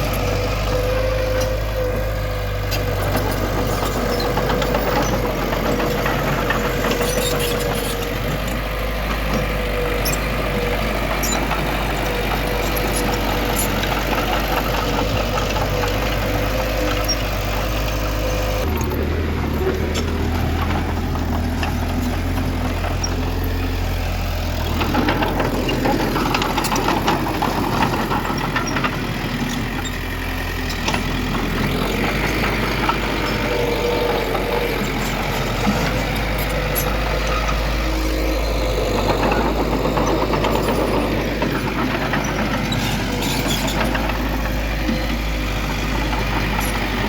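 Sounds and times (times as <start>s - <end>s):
heavy machinery diesel engine: 0.0s - 47.0s.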